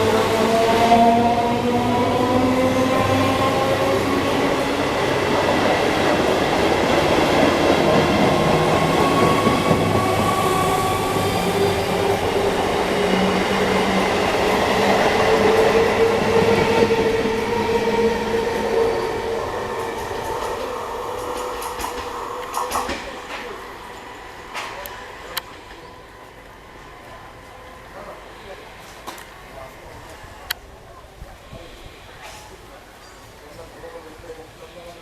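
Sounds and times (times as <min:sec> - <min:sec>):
train wheels rumbling on rails: 0:00.0 - 0:30.6.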